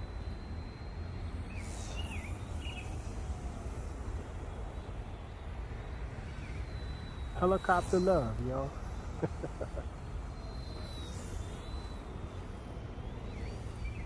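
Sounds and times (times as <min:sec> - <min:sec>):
toy helicopter motor whine: 0:00.0 - 0:14.0.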